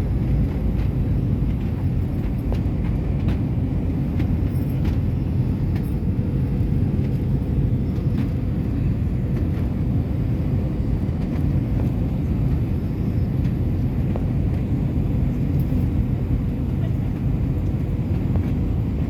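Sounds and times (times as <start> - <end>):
airliner cabin roar: 0.0 - 19.0.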